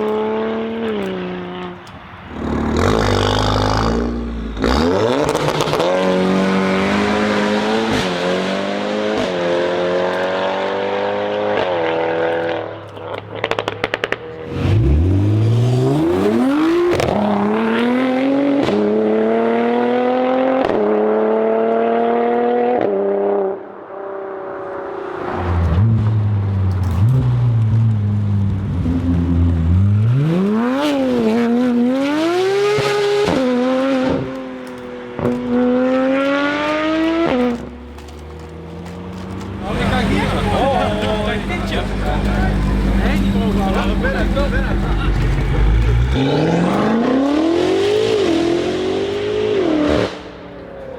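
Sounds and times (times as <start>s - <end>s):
car engine accelerating: 0.0s - 23.5s, 24.6s - 50.9s.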